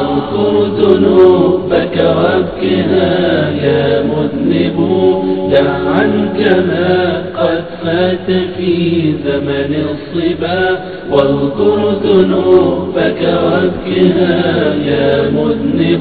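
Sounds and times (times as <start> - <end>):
melodic religious chanting: 0.0 - 16.0.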